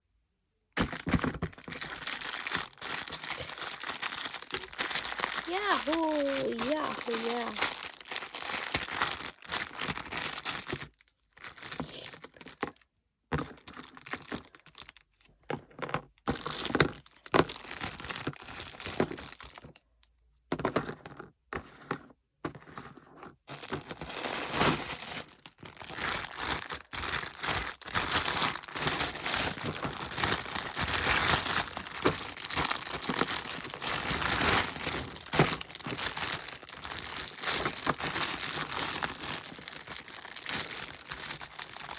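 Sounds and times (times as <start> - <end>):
packaging crumpling and tearing: 0.8 - 12.8, 13.4 - 15.1, 16.3 - 19.8, 23.5 - 41.9.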